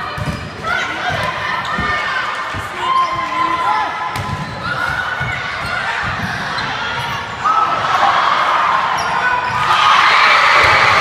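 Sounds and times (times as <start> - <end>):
sneakers squeaking: 0.0 - 7.8, 8.8 - 9.8
crowd voices: 0.0 - 11.0.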